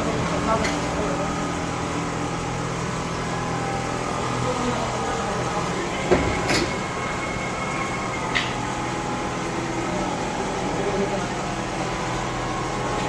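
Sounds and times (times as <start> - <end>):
quilting machine humming: 0.0 - 13.0.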